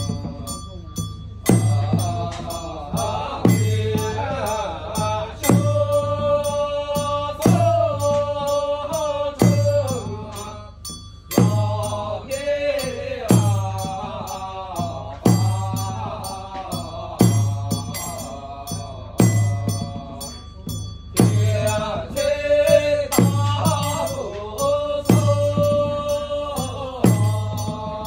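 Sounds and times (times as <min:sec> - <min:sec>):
small bell jingling: 0:00.0 - 0:04.2, 0:05.0 - 0:28.0
priests chanting: 0:00.0 - 0:28.0
struck percussion beat: 0:00.0 - 0:28.0.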